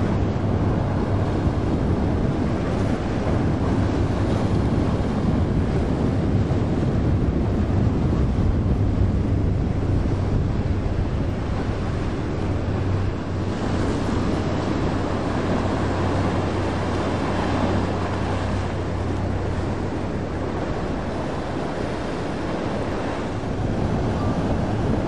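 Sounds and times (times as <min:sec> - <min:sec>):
boat wake and spray rushing: 0:00.0 - 0:25.0
diesel engine drone: 0:00.0 - 0:25.0
wind buffeting microphone: 0:00.0 - 0:25.0.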